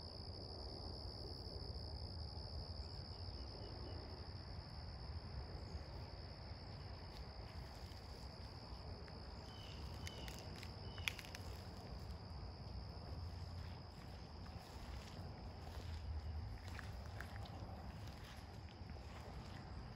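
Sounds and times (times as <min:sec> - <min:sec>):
insect chorus drone: 0:00.0 - 0:19.9.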